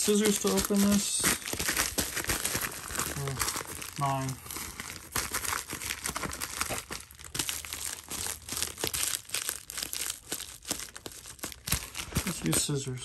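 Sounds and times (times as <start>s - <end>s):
package crinkling and rustling: 0.0s - 13.0s.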